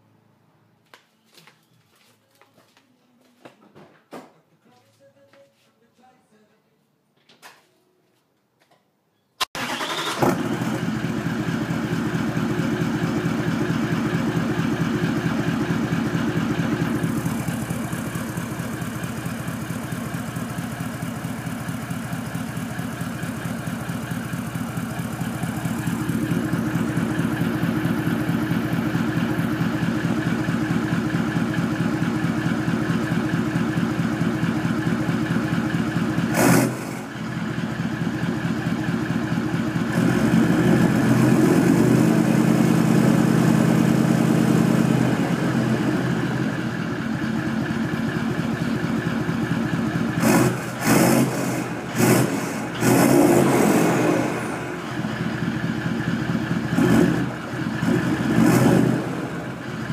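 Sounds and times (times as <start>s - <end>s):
diesel engine idling: 9.6s - 59.9s.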